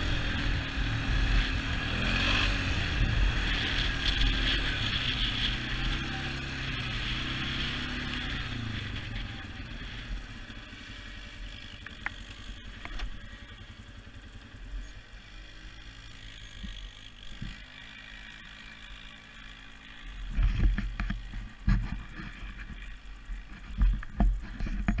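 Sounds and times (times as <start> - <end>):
atv engine idling and revving: 0.0 - 25.0.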